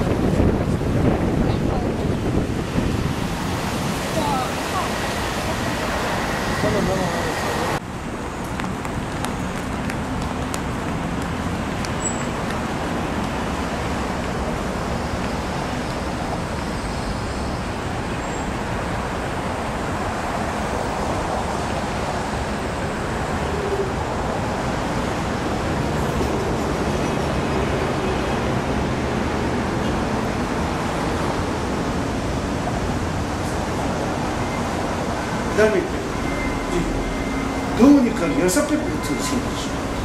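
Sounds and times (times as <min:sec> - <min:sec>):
road traffic passing cars: 0:00.0 - 0:40.0.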